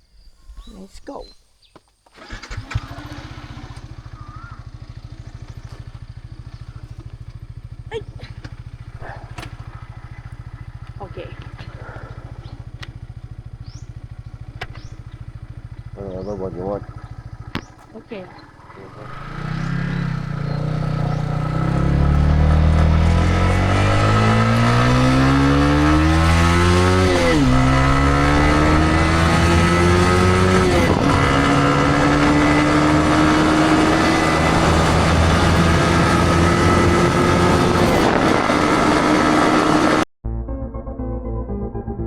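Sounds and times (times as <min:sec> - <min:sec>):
motorcycle engine accelerating: 0:02.1 - 0:40.1
wind and road noise: 0:02.1 - 0:40.1.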